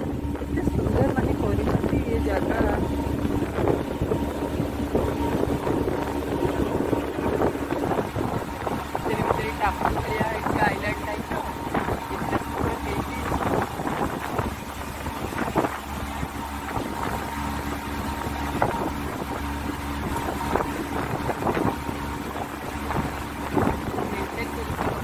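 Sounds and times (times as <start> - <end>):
boat engine droning: 0.0 - 25.0
wind gusting on microphone: 0.0 - 25.0.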